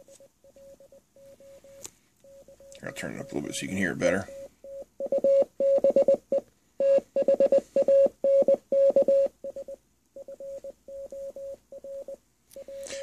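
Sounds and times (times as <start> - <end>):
morse code beeps: 0.0 - 13.0.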